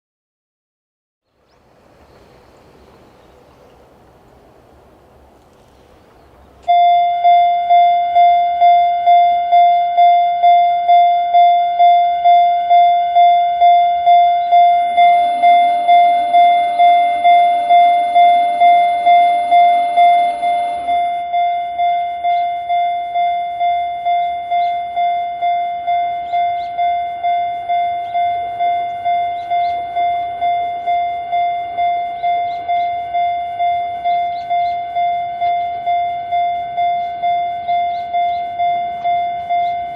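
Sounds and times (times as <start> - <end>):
lower tones sound: 5.9 - 39.9
level crossing electronic bell: 6.7 - 39.9.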